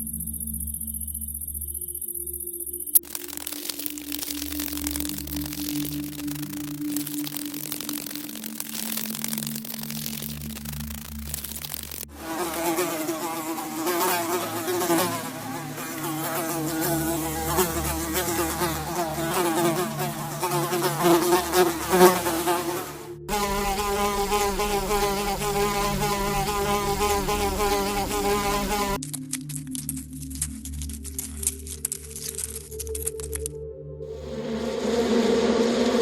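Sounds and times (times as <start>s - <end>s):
flying insect buzzing: 0.0s - 29.0s.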